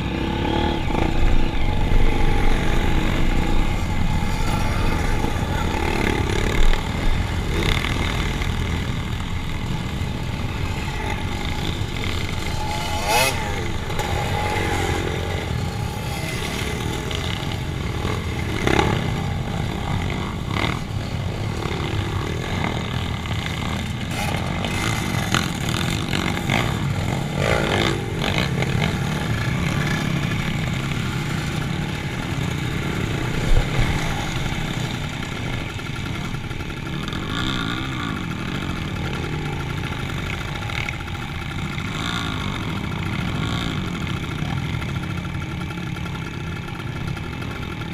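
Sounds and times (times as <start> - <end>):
vehicle engines running: 0.0 - 47.9.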